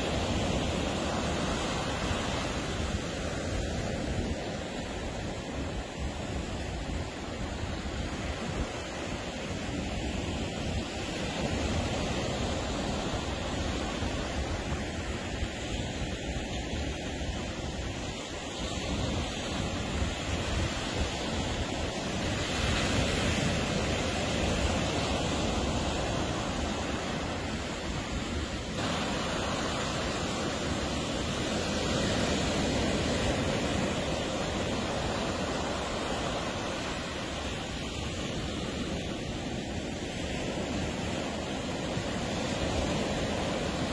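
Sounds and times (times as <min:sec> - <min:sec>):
ocean waves breaking on beach: 0:00.0 - 0:43.9
wind on microphone: 0:00.0 - 0:43.9.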